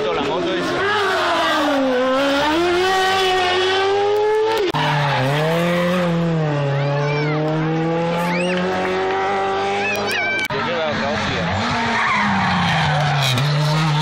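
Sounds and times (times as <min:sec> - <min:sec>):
rally car engines revving: 0:00.0 - 0:14.0.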